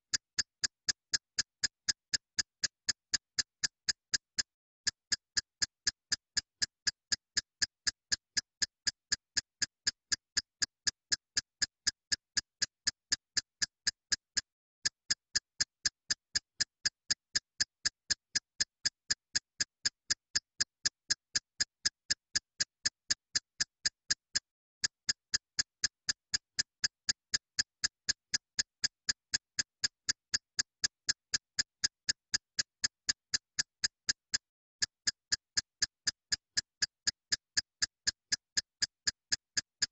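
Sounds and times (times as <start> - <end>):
steady ticking clicks: 0.0 - 39.9.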